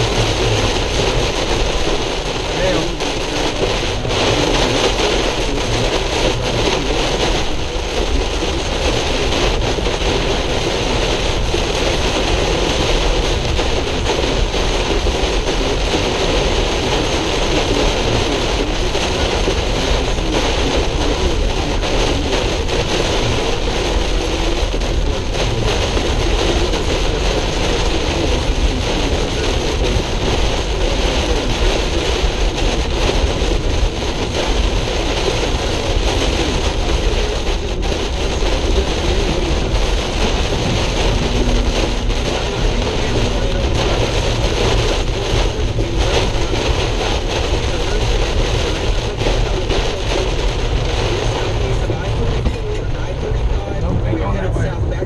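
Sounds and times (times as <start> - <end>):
heavy rain on a car: 0.0 - 55.0
tyres on wet road: 0.0 - 55.0.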